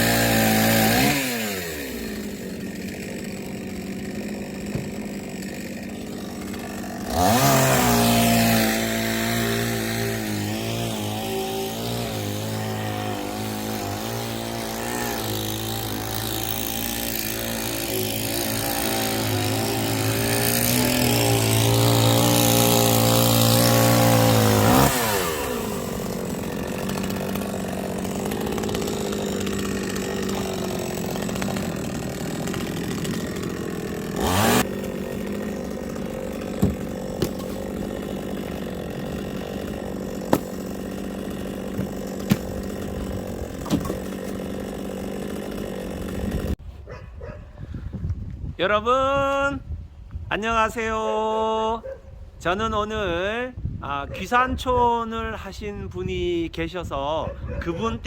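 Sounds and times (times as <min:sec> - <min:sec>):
chainsaw running: 0:00.0 - 0:46.6.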